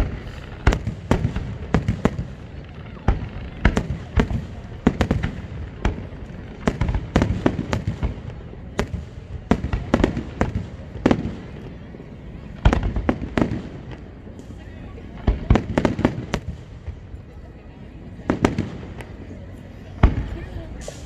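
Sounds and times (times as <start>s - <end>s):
continuous low rumble: 0.0s - 21.0s
fireworks bursting: 0.0s - 21.0s.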